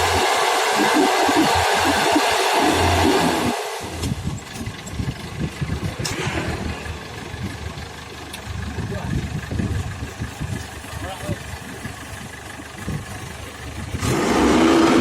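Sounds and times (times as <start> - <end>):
combine harvester engine running: 0.0 - 15.0.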